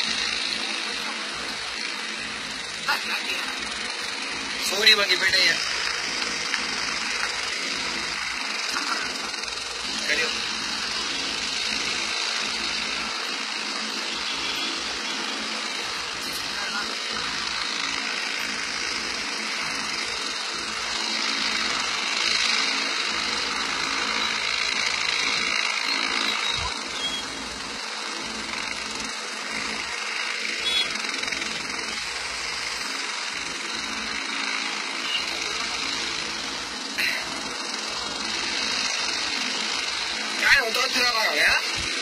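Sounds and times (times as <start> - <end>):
helicopter engine and rotor: 0.0 - 42.0.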